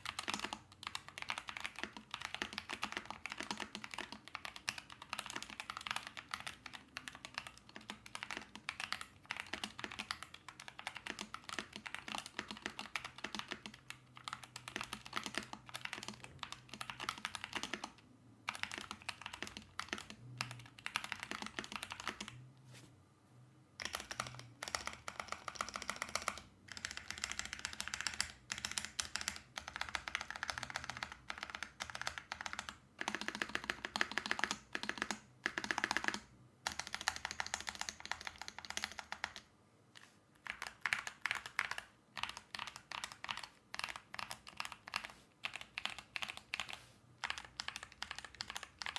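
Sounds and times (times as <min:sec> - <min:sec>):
keyboard typing: 0:00.0 - 0:22.4, 0:23.8 - 0:48.9.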